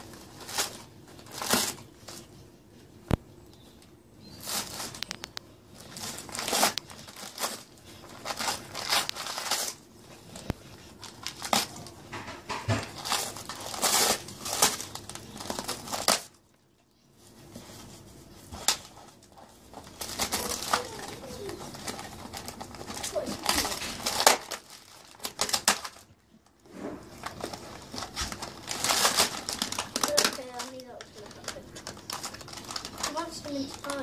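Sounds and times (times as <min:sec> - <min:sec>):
wrapping paper crinkling and tearing: 0:00.0 - 0:02.4, 0:04.3 - 0:16.4, 0:17.2 - 0:34.0.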